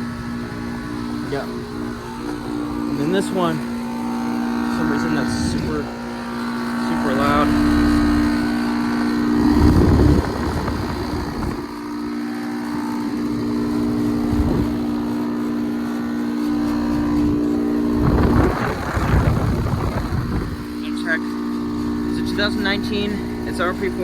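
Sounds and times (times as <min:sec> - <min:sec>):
air conditioner compressor hum: 0:00.0 - 0:24.0.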